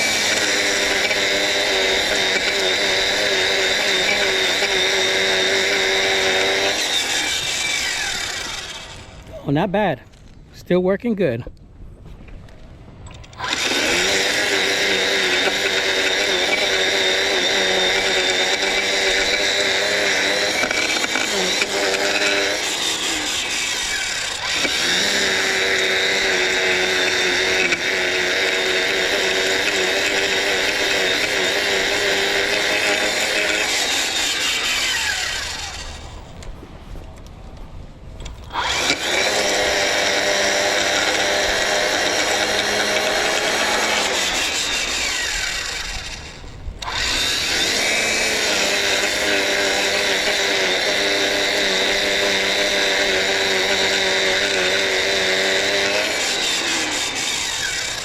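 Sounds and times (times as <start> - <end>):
electric lawn tool whining: 0.0 - 9.4, 13.1 - 36.6, 38.2 - 58.0.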